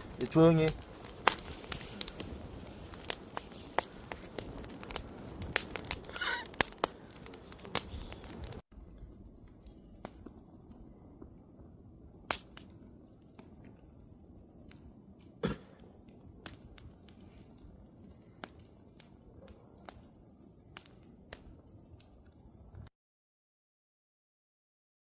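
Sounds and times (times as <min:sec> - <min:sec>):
campfire burning rustle: 0:00.0 - 0:22.9
fire popping and snapping: 0:00.0 - 0:22.9.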